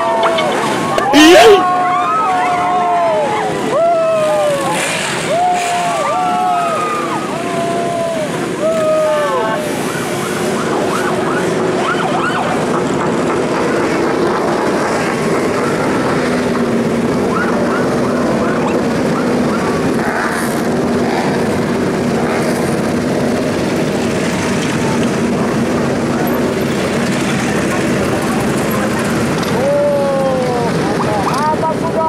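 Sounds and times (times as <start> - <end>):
motorcycle engines droning: 0.0 - 32.0.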